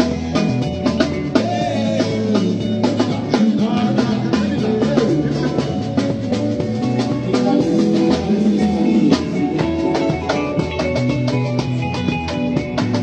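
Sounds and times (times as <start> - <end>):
bass line: 0.0 - 13.0
drum beat: 0.0 - 13.0
guitar or keyboard notes: 0.0 - 13.0.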